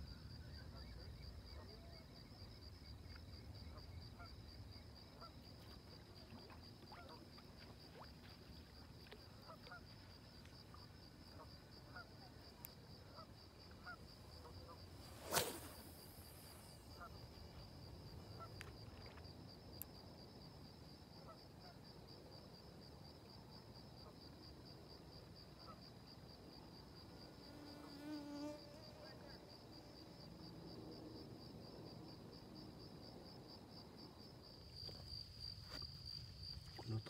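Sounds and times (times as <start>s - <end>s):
crickets chirping: 0.0s - 37.0s.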